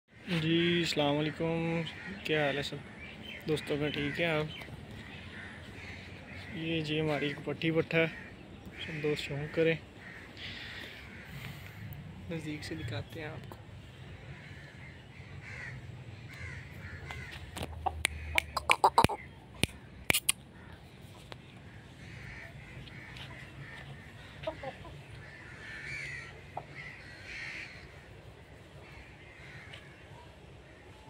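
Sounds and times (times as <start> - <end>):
crows cawing: 0.1 - 12.1, 14.0 - 19.9, 20.5 - 20.9, 21.5 - 31.0.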